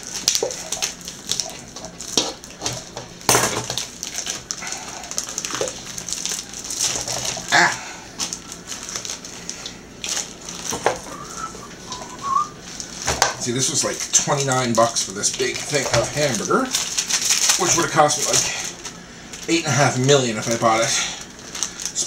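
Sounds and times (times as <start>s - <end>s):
plastic film crinkling: 0.0s - 22.0s.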